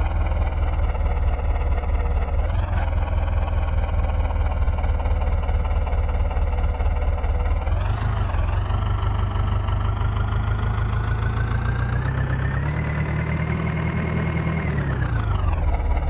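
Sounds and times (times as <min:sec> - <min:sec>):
diesel engine revving: 0:00.0 - 0:04.9, 0:07.5 - 0:16.0.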